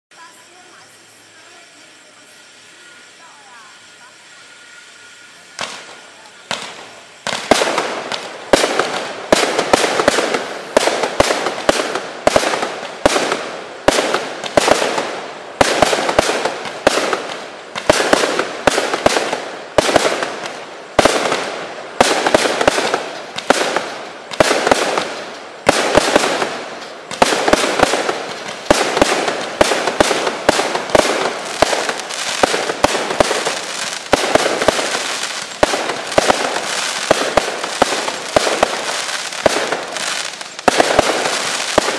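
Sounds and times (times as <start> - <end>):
firework shell crackle: 0.1 - 41.9
fireworks bangs: 0.1 - 41.9.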